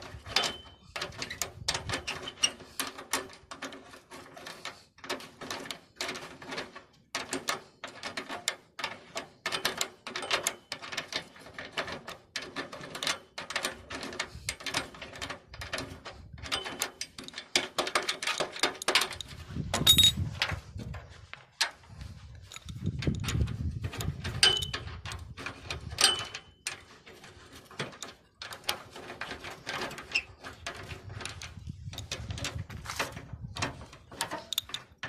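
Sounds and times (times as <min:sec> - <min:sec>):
knocks and scrapes on metal: 0:00.0 - 0:35.0.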